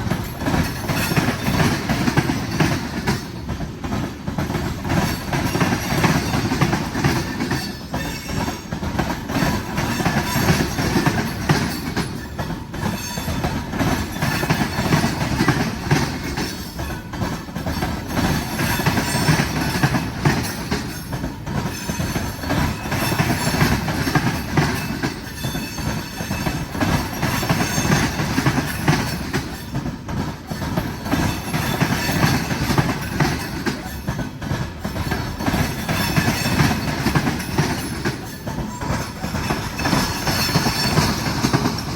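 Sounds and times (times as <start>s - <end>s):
train wheels rumbling on rail: 0.0s - 41.9s
wheels clacking over rail joints: 0.0s - 41.9s.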